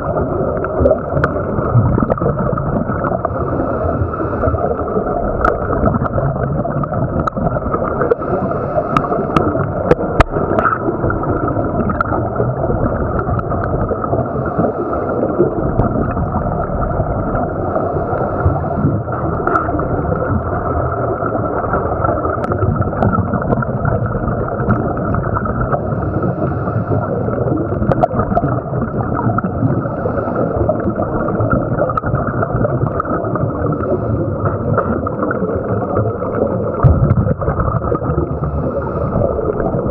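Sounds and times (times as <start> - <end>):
divers' exhaled air bubbles: 0.0 - 39.9
underwater rushing and gurgling: 0.0 - 39.9.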